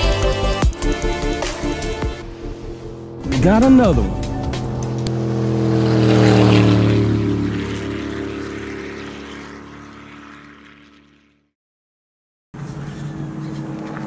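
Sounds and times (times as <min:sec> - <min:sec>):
engine-like hum with held tones: 0:00.0 - 0:11.5, 0:12.6 - 0:14.0.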